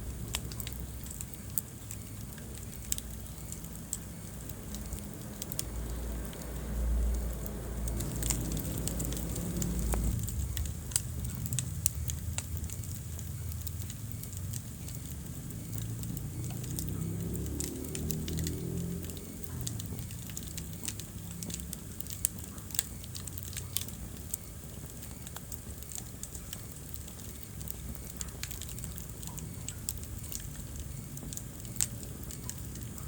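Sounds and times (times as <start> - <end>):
sharp pops from fire: 0.0 - 33.0
wood fire crackling: 0.0 - 33.0.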